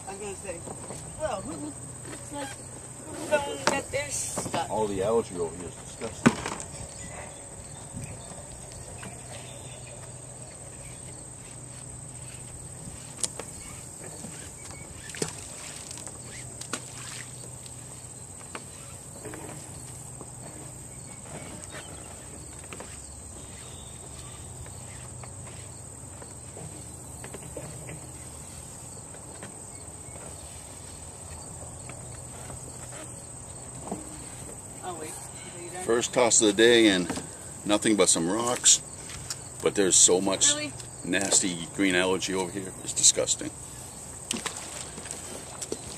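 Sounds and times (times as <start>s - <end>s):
high insect trilling: 0.0s - 6.2s, 7.6s - 43.9s.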